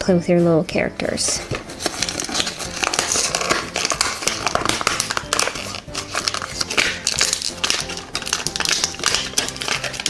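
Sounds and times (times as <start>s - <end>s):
background music: 0.0s - 10.0s
plastic packaging crinkling: 1.4s - 10.0s.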